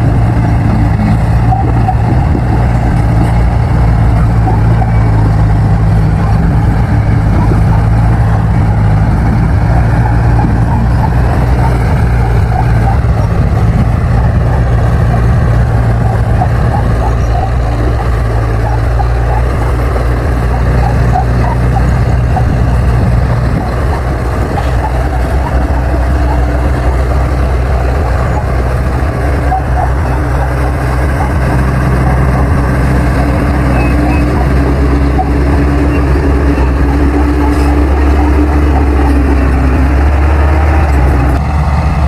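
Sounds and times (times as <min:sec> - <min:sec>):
bulldozer diesel engine under load: 0:00.0 - 0:42.0.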